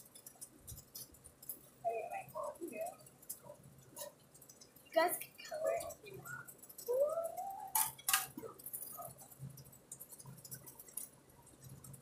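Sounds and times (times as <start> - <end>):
faint ticks of handling: 0.0 - 12.0.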